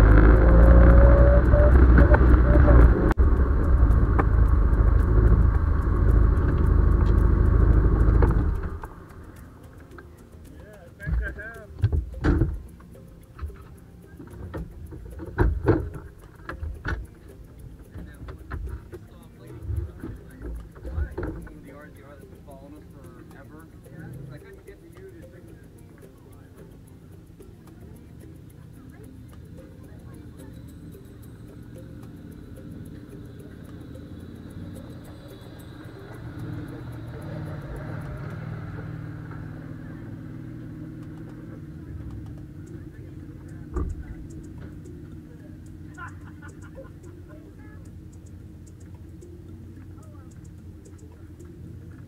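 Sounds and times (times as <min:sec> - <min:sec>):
engine idling: 0:00.0 - 0:52.0
faint regular ticking: 0:00.0 - 0:52.0.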